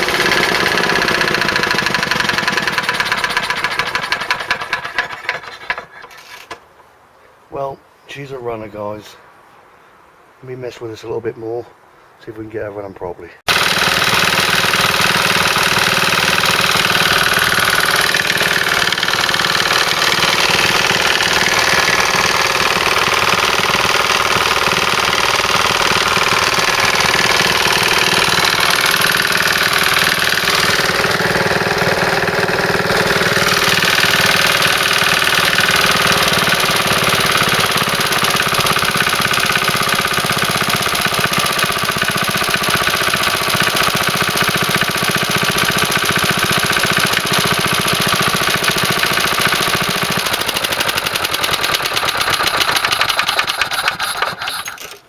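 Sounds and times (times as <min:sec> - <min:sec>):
lawnmower engine running: 0:00.0 - 0:06.9, 0:13.5 - 0:55.0.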